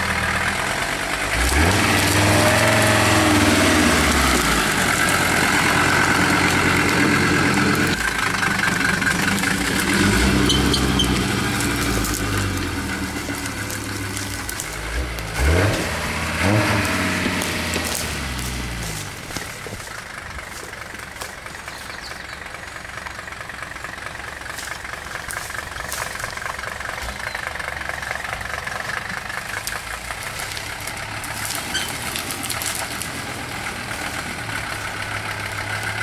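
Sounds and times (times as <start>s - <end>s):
engine revving: 0.0s - 22.4s, 24.5s - 36.0s.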